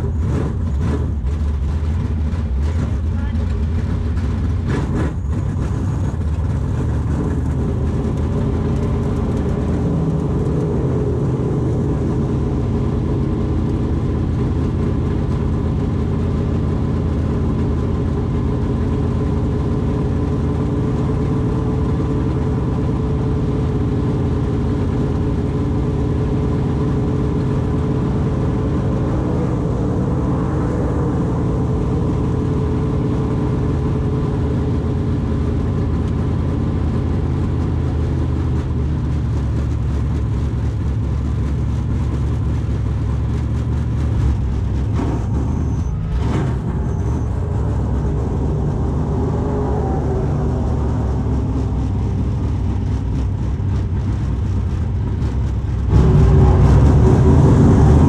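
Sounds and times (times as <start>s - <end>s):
race car engine at low revs: 0.0s - 58.0s.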